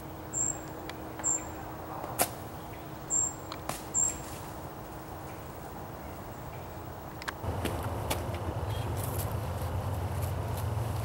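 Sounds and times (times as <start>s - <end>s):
woodland ambience: 0.0s - 11.0s.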